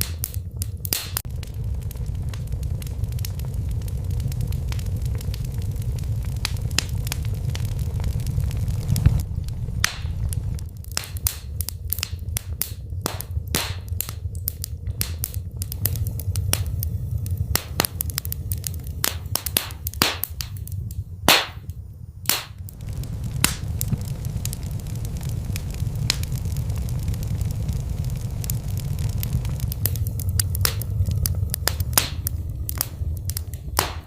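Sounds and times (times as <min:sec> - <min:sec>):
fire crackling and popping: 0:00.0 - 0:34.0
low rumble of fire: 0:00.0 - 0:34.0.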